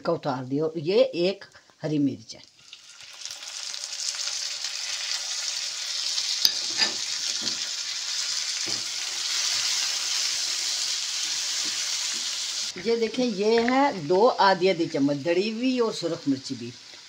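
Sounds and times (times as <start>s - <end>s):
vegetables sizzling in oil: 2.5s - 17.0s.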